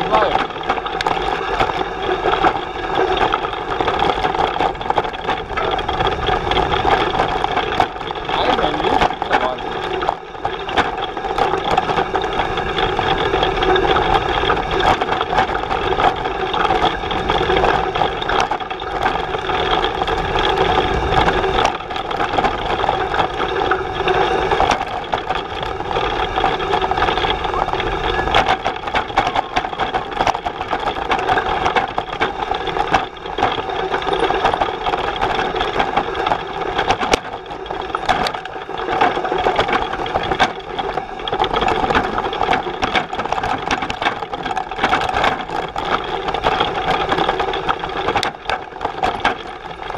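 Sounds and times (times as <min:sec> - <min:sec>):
bike frame rattling and knocking: 0:00.0 - 0:49.9
steady droning hum: 0:00.0 - 0:49.9.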